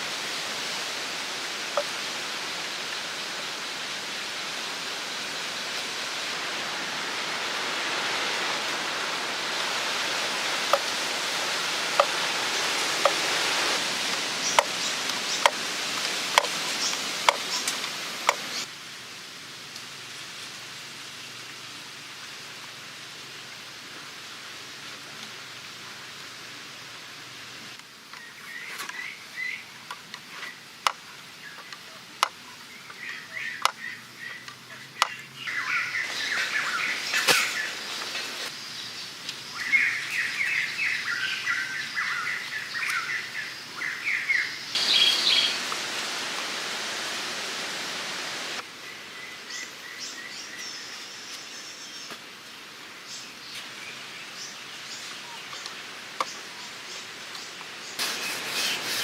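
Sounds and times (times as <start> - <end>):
outdoor hiss: 0.0 - 59.0.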